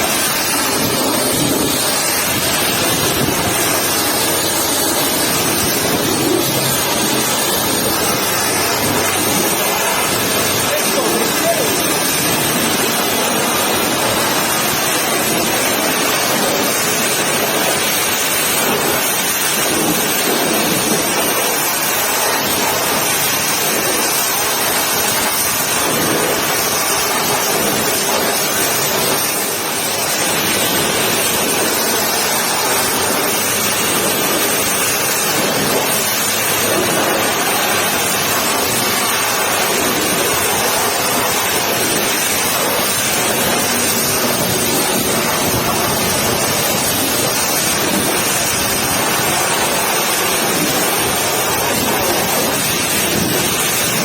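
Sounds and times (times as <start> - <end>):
pressure washer spray hissing: 0.0 - 54.0.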